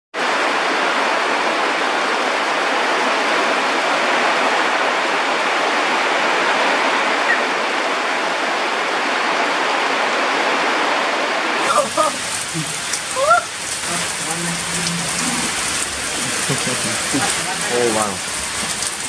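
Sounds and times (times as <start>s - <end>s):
heavy rain on foliage: 0.2s - 19.0s.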